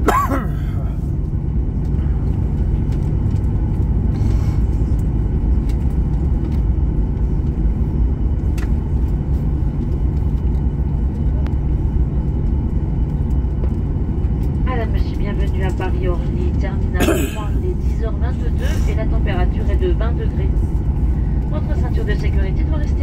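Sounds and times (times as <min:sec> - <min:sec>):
jet engine noise: 0:00.0 - 0:23.0.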